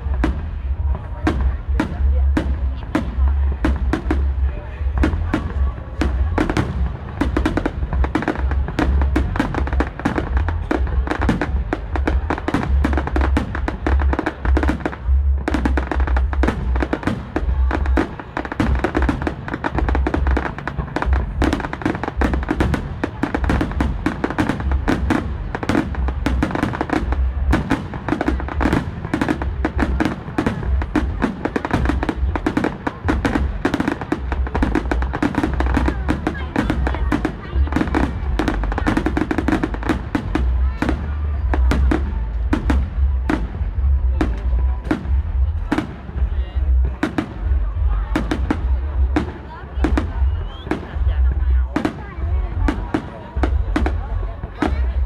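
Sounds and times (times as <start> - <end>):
deep fireworks booms: 0.0 - 55.0
fireworks bangs: 0.0 - 55.0
music: 0.0 - 55.0.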